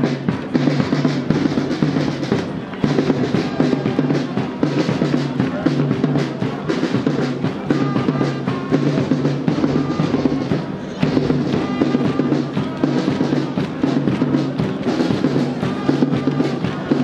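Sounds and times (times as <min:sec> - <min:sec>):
bass drum march beat: 0:00.0 - 0:17.0
snare drum: 0:00.0 - 0:17.0.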